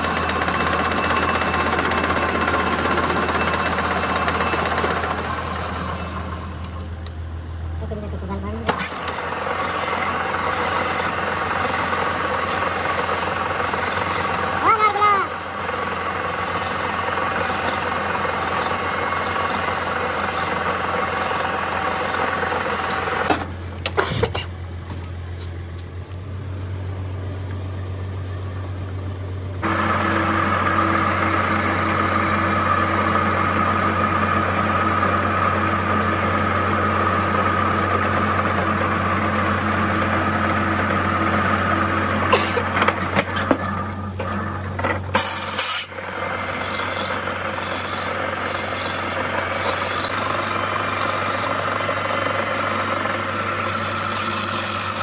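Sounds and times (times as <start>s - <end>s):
cutting tool whine: 0.0s - 7.0s, 8.6s - 23.5s, 29.6s - 55.0s
metal lathe humming: 0.0s - 7.1s, 8.7s - 23.4s, 29.6s - 55.0s.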